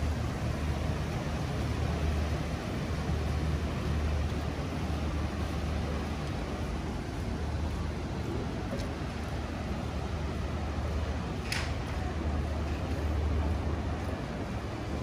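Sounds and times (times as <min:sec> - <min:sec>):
city traffic hiss: 0:00.0 - 0:15.0
low rumble of engines: 0:00.0 - 0:15.0.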